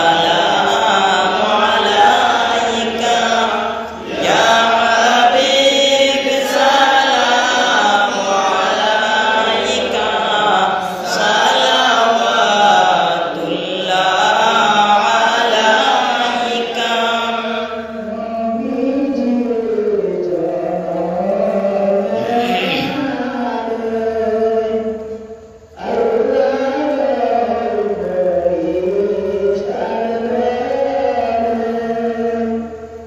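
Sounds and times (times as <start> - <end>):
man chanting devotional recitation: 0.0 - 33.0.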